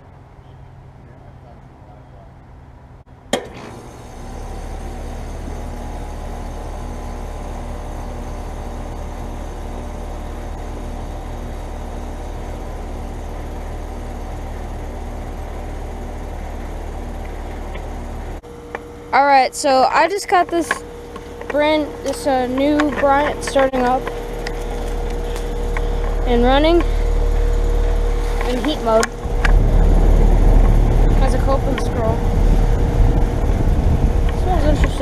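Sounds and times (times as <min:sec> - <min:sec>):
heat pump humming: 0:03.3 - 0:35.0.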